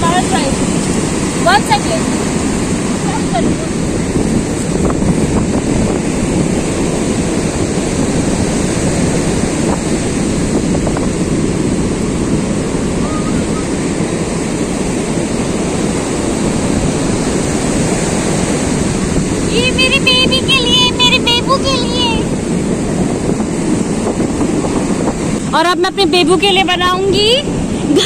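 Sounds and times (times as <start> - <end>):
sea surf rushing: 0.0 - 28.0
wind buffeting microphone: 0.0 - 28.0.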